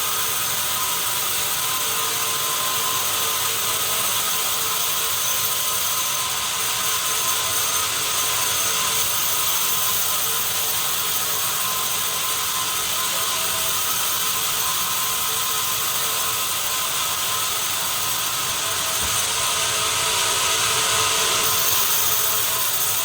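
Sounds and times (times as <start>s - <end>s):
sawmill machinery whine and hum: 0.0s - 23.0s.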